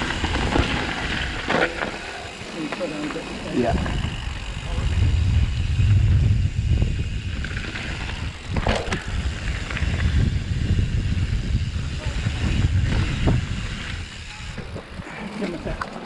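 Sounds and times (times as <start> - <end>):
wind rushing over microphone: 0.0 - 1.5, 3.4 - 15.8
bike rattling over rough ground: 0.0 - 16.0
bike tyres rolling on gravel: 0.0 - 16.0.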